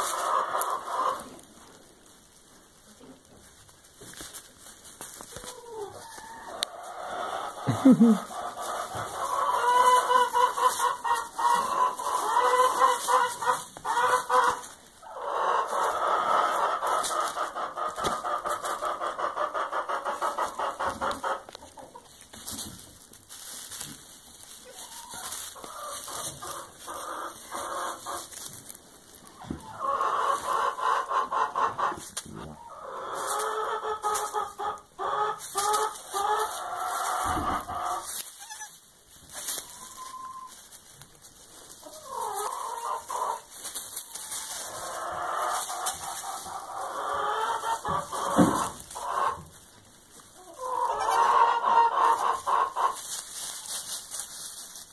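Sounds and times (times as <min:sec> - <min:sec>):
farm animals calling: 0:00.0 - 0:01.8, 0:05.2 - 0:54.8
straw rustling: 0:00.0 - 0:54.9.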